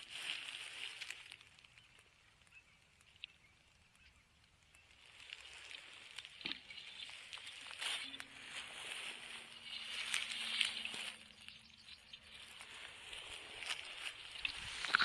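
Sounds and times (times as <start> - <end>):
faint rustling and crackling: 0.0 - 15.0.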